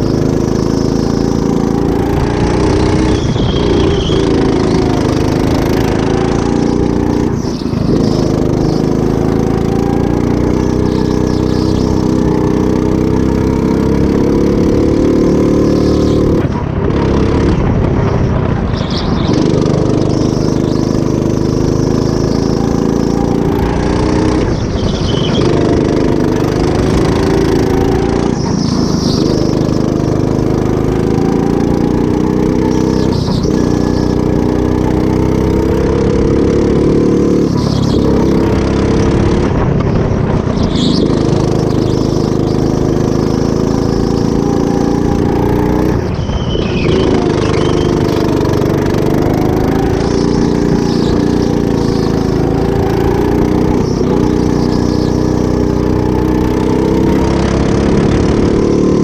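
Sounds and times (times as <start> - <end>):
go-kart engine at full throttle: 0.0 - 59.0.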